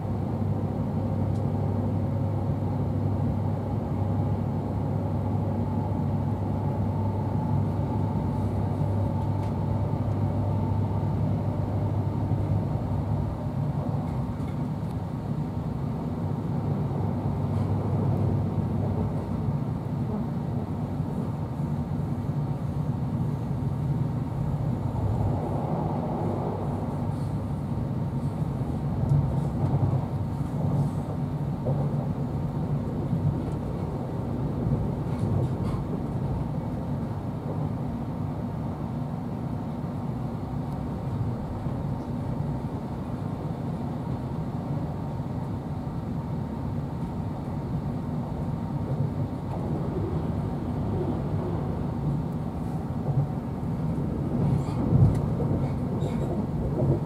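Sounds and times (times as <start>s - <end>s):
train coach rumble: 0.0s - 57.0s.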